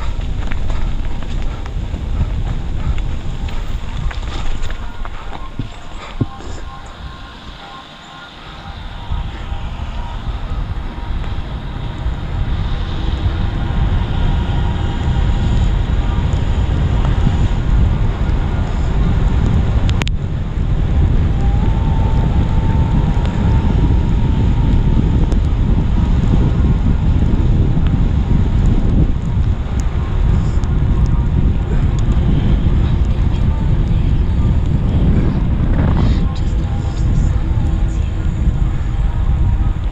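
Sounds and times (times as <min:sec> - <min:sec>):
bike rumbling over rough trail: 0:00.0 - 0:39.9
wind buffeting microphone: 0:00.0 - 0:39.9.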